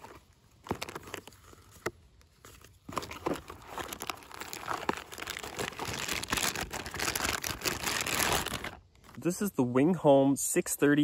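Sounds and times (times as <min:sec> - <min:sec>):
crinkling and rustling at microphone: 0:00.0 - 0:09.3.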